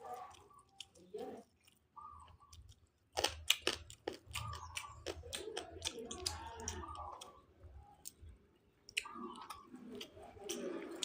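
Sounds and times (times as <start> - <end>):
person chewing: 0.0 - 11.0
lip smacks and clicks: 0.1 - 7.4, 8.0 - 11.0.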